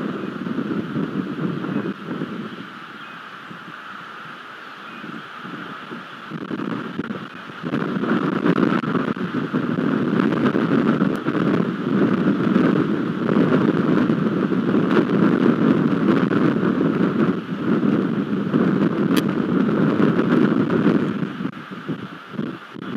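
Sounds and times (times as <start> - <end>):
rain and wind on microphone: 0.0 - 22.9.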